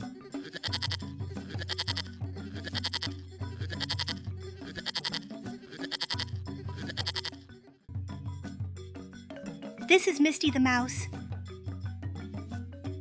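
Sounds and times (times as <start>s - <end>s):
children's background music: 0.0s - 13.0s.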